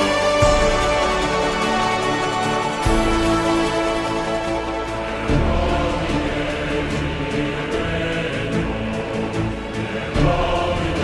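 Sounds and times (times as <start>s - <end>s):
choir-like tones over beat: 0.0s - 11.0s.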